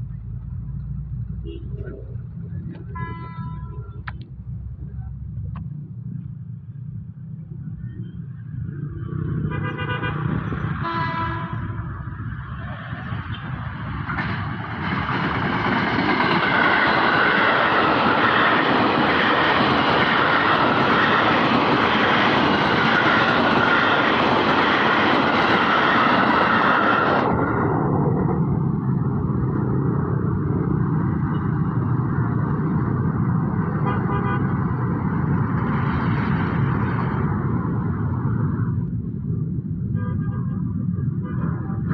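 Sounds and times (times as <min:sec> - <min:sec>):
train passing close by: 0:00.0 - 0:05.1, 0:07.8 - 0:41.9
traffic rumble: 0:00.0 - 0:41.9.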